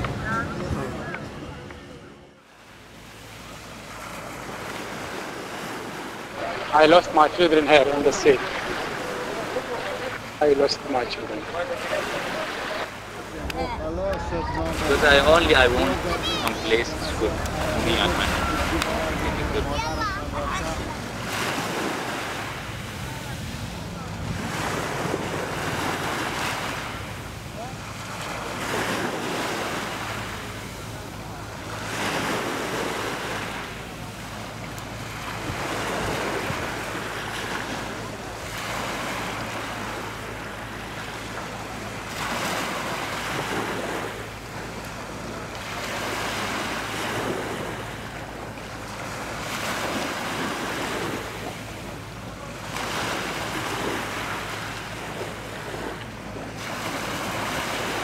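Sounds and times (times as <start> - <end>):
sea waves washing ashore: 0.0 - 58.0
wind: 0.0 - 58.0.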